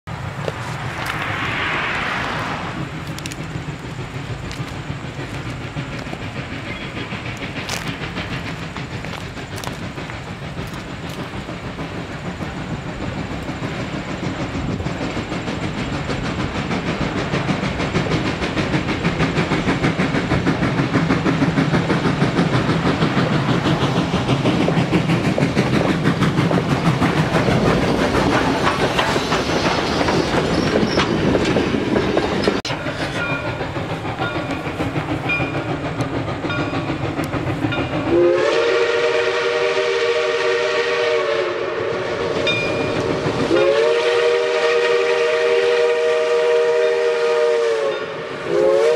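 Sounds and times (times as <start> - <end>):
steam locomotive running: 0.1 - 48.9.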